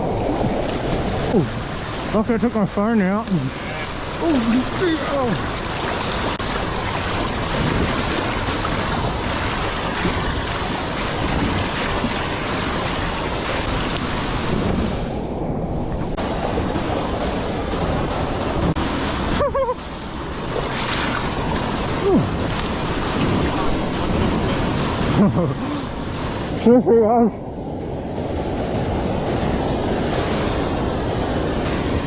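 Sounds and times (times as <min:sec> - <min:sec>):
creek water flowing: 0:00.0 - 0:32.0.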